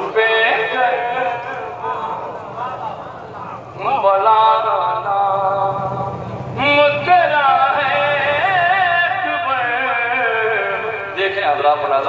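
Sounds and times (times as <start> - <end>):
man singing melodically: 0.0 - 2.3, 3.8 - 5.9, 6.5 - 12.0.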